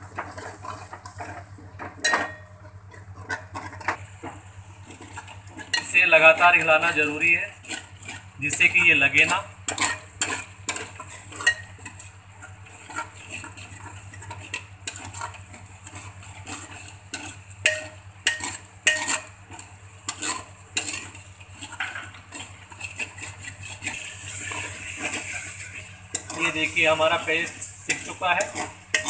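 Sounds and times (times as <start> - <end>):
light frying sizzle: 0.0 - 29.0
metal spoon scraping a pot: 0.1 - 4.1, 4.8 - 29.0.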